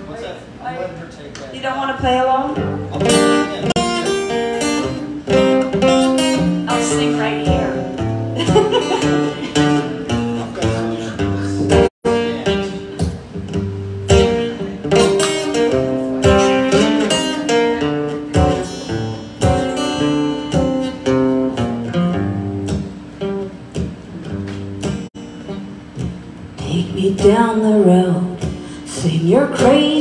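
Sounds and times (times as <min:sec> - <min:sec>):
acoustic guitar playing: 0:01.8 - 0:30.0.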